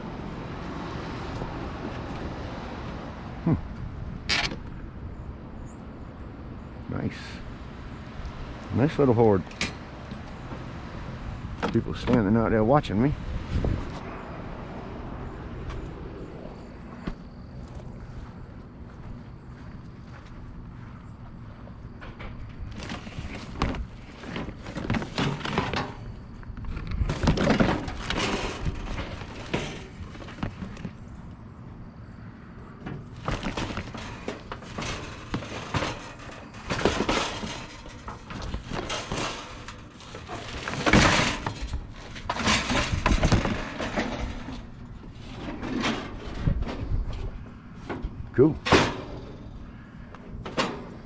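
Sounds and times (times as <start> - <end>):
junk clattering and banging: 8.3 - 51.0.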